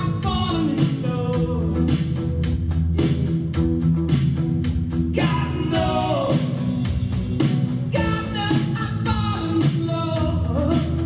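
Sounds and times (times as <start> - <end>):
rock song with sung vocal: 0.0 - 3.0, 4.8 - 11.0.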